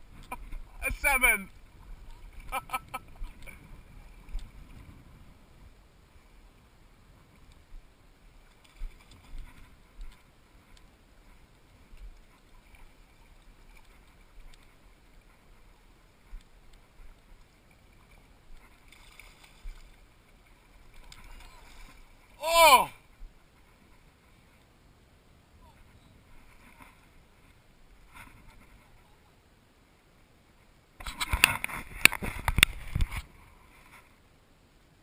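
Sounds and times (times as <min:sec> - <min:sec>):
river water swirling and lapping: 0:00.0 - 0:35.0.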